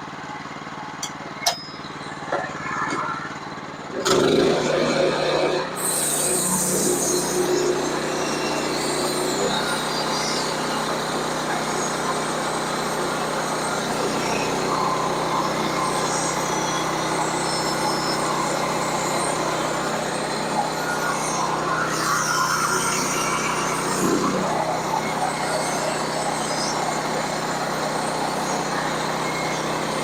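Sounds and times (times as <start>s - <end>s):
sawmill engine humming: 0.0s - 30.0s.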